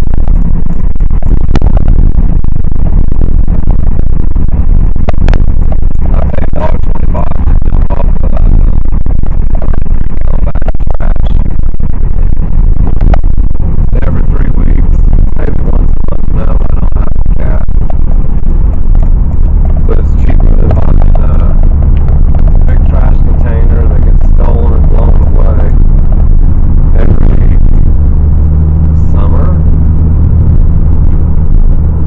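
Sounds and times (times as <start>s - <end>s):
road and wind rumble in car: 0.0s - 32.0s.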